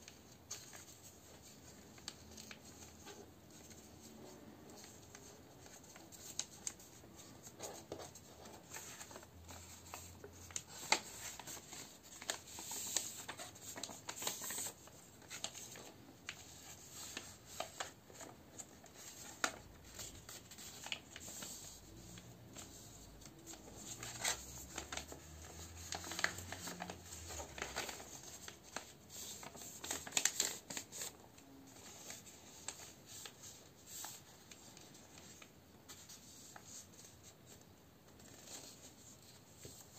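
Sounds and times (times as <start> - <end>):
paper rustling and creasing: 0.0 - 39.9.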